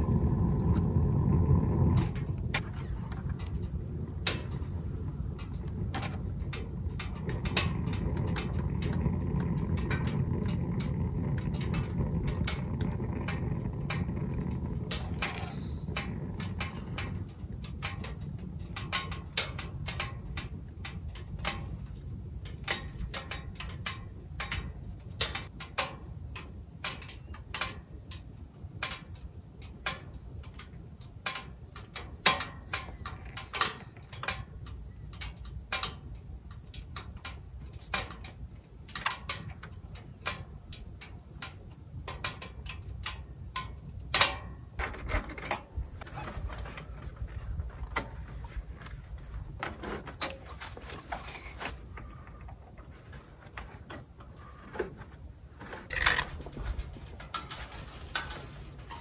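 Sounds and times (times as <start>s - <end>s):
firewood crackling and popping: 0.0s - 59.0s
stove low rumble: 0.0s - 59.0s.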